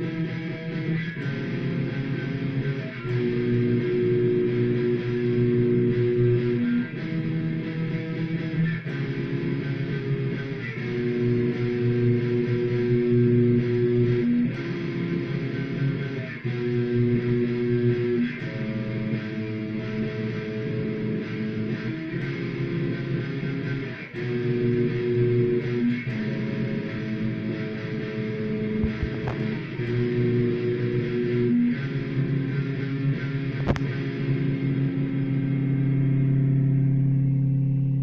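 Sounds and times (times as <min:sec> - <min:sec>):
guitar playing held chords: 0:00.0 - 0:38.0.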